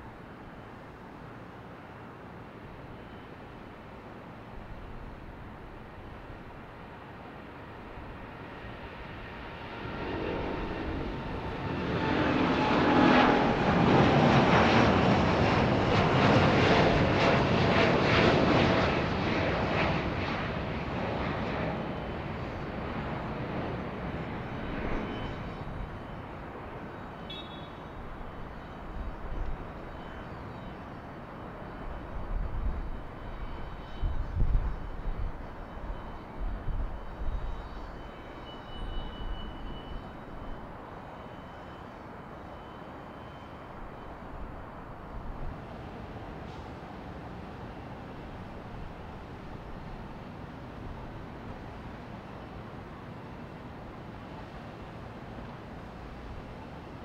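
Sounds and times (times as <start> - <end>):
jet airliner taking off: 1.7 - 57.0.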